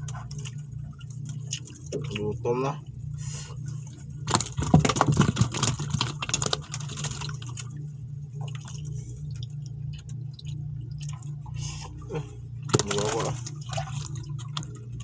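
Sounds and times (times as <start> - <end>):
water clattering and splashing: 0.0 - 2.9, 3.6 - 15.0
steady low hum: 0.0 - 15.0.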